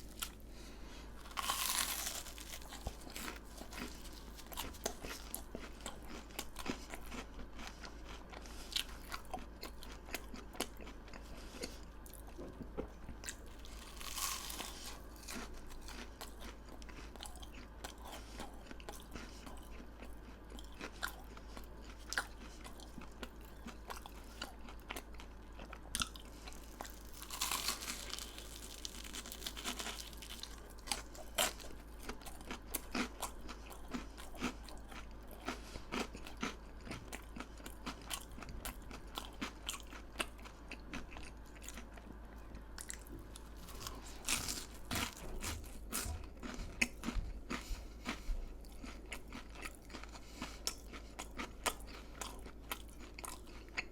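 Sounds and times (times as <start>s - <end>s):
chewing crisp fried food: 0.0s - 53.9s.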